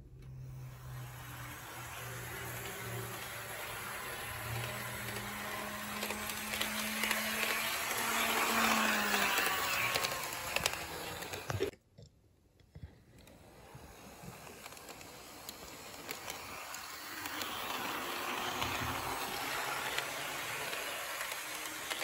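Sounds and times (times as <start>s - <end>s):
model train motor humming: 0.2s - 11.7s, 13.2s - 22.0s
wheels clicking over rail joints: 0.9s - 11.7s, 13.9s - 22.0s.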